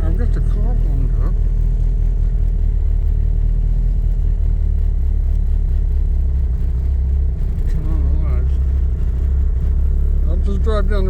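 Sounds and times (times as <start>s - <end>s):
car engine deep drone: 0.0s - 11.0s.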